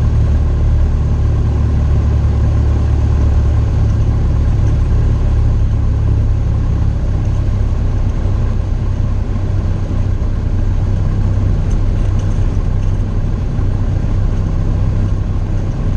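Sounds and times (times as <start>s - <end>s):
light aircraft engine droning: 0.0s - 15.9s.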